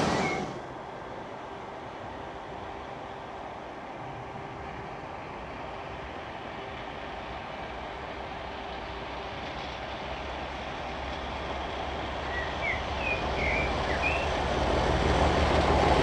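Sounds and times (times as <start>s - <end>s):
diesel locomotive engine rumble: 0.0s - 16.0s
train wheel noise: 0.0s - 16.0s.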